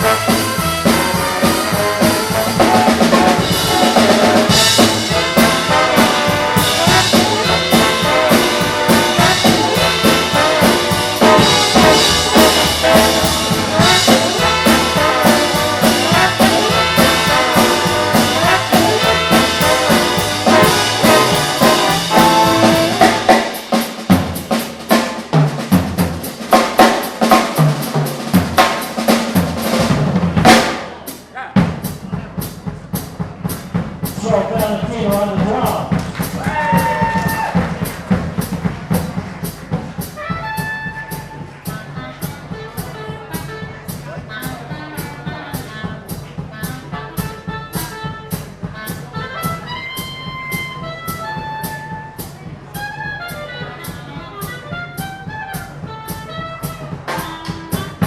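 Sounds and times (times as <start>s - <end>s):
big band playing swing: 0.0s - 58.0s
drum solo snare and rim hits: 0.0s - 58.0s.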